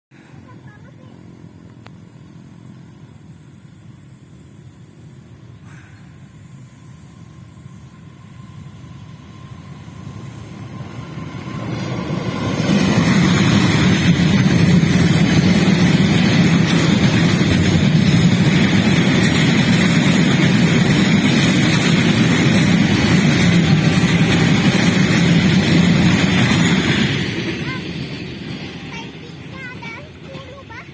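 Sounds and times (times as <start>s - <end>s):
freight train passing: 0.1s - 30.9s.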